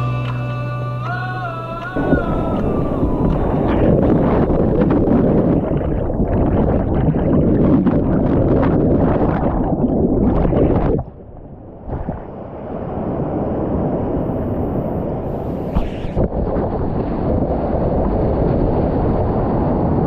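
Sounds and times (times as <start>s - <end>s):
wind buffeting microphone: 1.6s - 20.0s.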